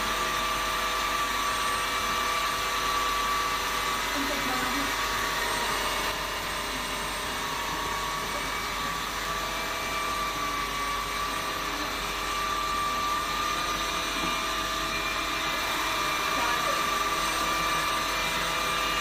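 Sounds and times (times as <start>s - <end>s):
floor cleaner whining: 0.0s - 19.0s.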